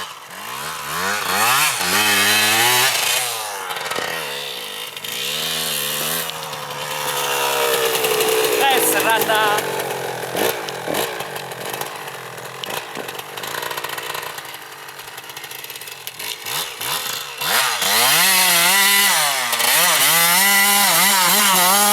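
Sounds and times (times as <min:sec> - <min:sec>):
motocross bike engine revving: 0:00.0 - 0:21.9.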